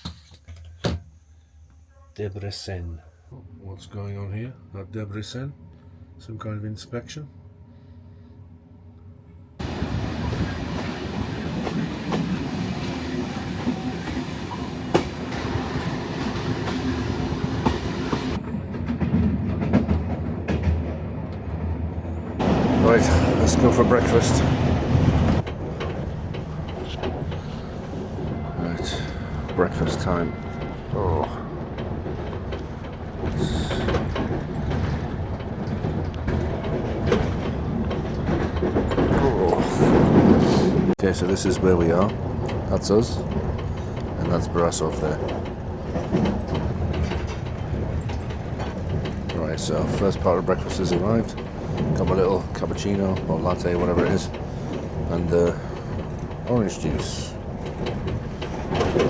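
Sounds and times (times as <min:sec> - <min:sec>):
train carriage rumble and rattle: 0:00.0 - 0:01.2, 0:03.4 - 0:59.0
wheels clicking over rail joints: 0:09.6 - 0:59.0.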